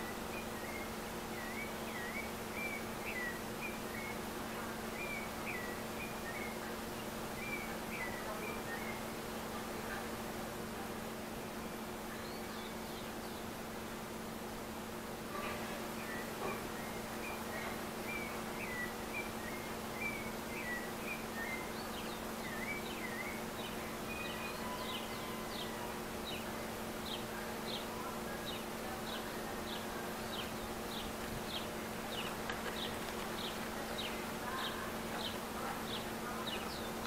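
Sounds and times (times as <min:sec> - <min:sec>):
small birds chirping: 0:00.0 - 0:10.2, 0:15.3 - 0:37.0
steady low hum: 0:00.0 - 0:37.0.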